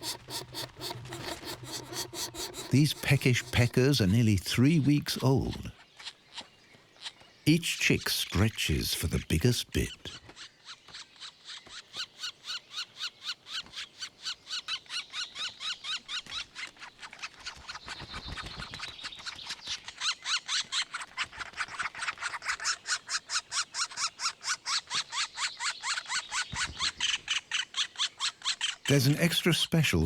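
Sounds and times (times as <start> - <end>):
woodpecker nestlings begging calls: 0.0 - 29.2.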